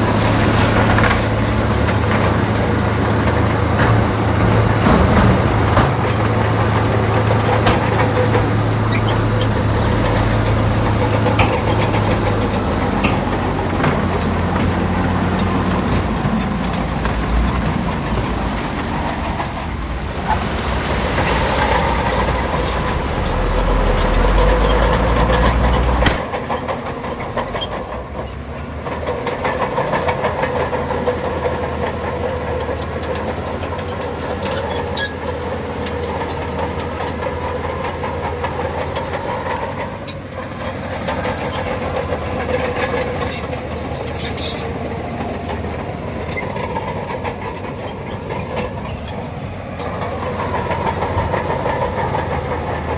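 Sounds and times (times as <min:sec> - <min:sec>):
heavy diesel machinery engine drone: 0:00.0 - 0:52.9.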